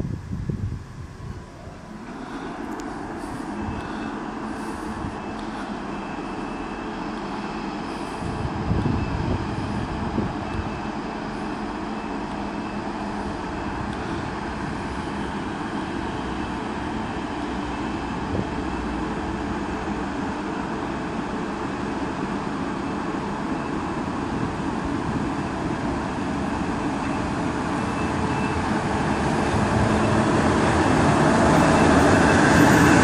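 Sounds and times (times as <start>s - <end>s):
electric locomotive hum: 0.0s - 33.0s
wheel and rail noise: 0.0s - 33.0s.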